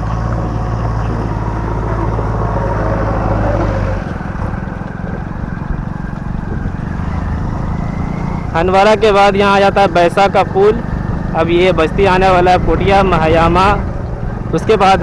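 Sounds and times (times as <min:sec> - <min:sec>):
motorcycle engine drone: 0:00.0 - 0:15.0
road and wind noise: 0:00.0 - 0:15.0.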